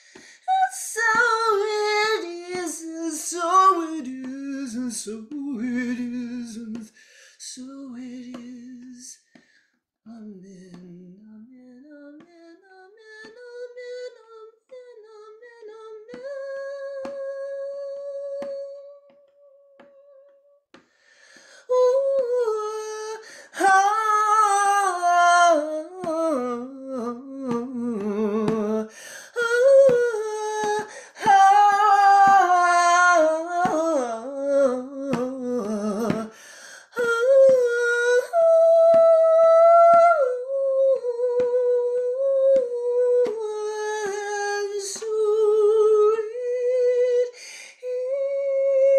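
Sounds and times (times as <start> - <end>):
woman singing a chant: 0.0 - 9.4, 10.1 - 20.3, 21.6 - 48.9.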